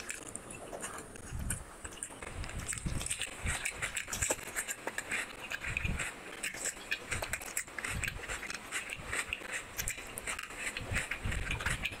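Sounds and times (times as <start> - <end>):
sucking fingers: 0.0 - 12.0
wet chewing and lip smacks: 0.0 - 12.0.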